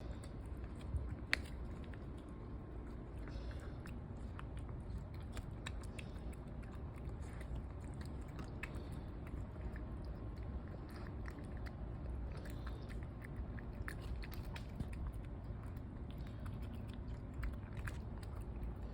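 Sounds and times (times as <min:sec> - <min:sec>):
cat chewing food: 0:00.0 - 0:18.9.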